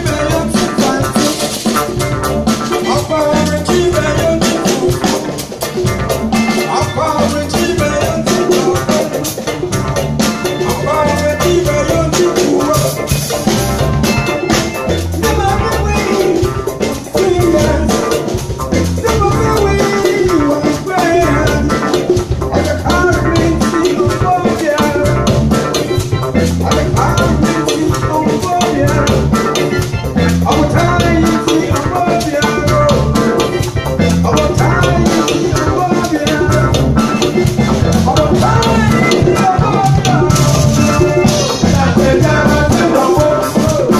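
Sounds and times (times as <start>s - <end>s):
live band playing instrumental: 0.0s - 43.9s.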